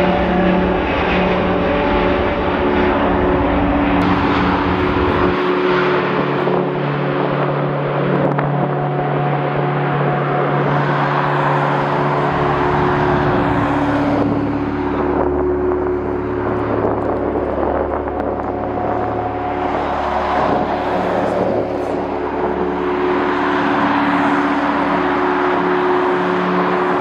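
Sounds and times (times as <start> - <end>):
jet engines humming: 0.0 - 27.0.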